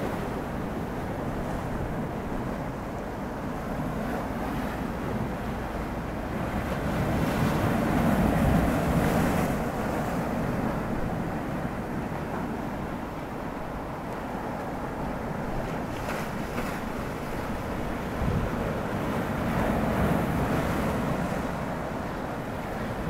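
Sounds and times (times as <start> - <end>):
sea waves breaking over rocks: 0.0 - 23.0.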